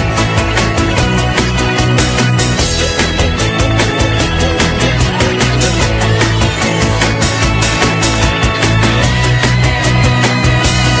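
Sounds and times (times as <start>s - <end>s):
heavy held bass line: 0.0s - 11.0s
loud music with driving beat: 0.0s - 11.0s.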